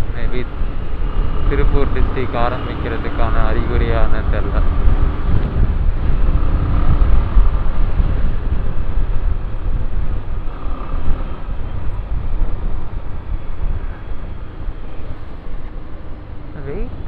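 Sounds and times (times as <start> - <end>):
wind and road noise: 0.0 - 17.0.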